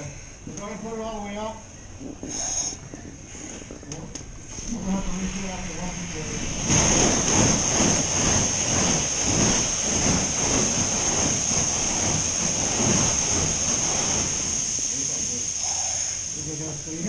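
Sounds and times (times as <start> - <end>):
water spraying from fire hose: 2.3 - 17.0.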